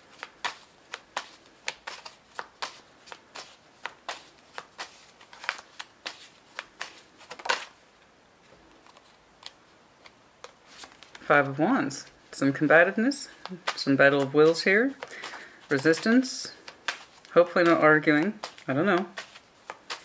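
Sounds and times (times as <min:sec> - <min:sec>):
cards being shuffled: 0:00.0 - 0:07.8, 0:08.5 - 0:20.0.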